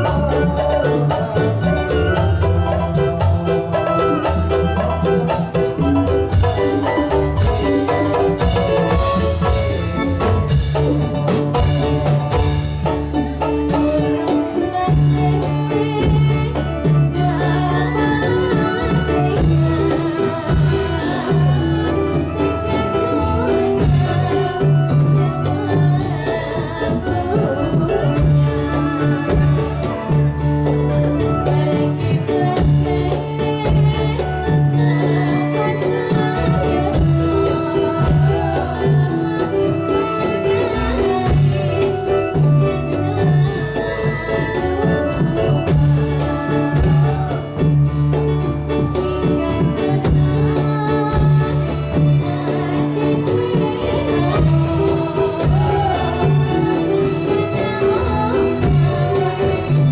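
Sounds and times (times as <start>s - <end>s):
drums: 0.0s - 59.9s
held instrumental notes: 0.0s - 59.9s
jingling percussion: 0.0s - 59.9s
person singing: 0.0s - 59.9s.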